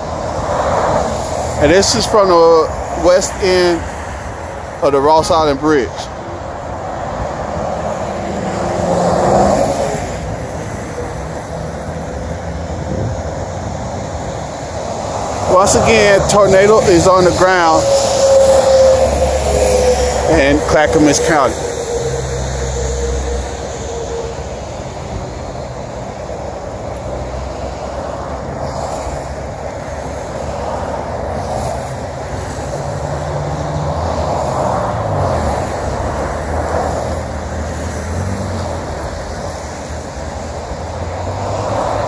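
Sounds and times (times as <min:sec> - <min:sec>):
road traffic: 0:00.0 - 0:42.0
vehicle passing by: 0:00.2 - 0:42.0.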